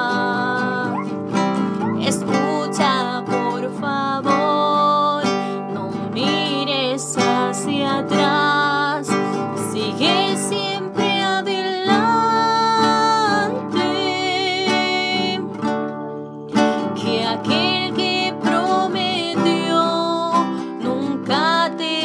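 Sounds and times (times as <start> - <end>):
nylon-string guitar strumming: 0.0 - 22.0.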